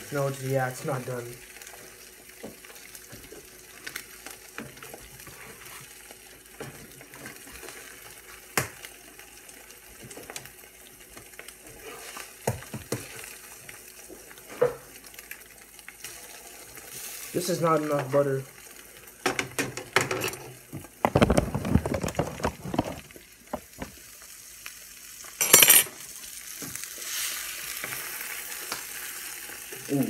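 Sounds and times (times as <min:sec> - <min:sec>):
eggs sizzling in a frying pan: 0:00.0 - 0:30.0.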